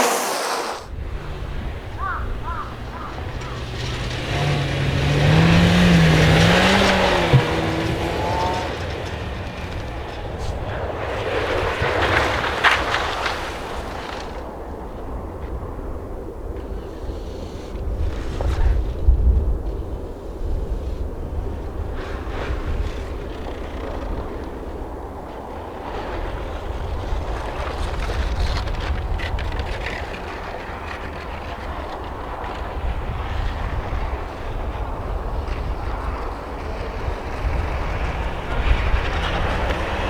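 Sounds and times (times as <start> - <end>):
rally car engine: 0.0 - 14.5, 21.3 - 40.0
wind buffeting microphone: 0.7 - 40.0.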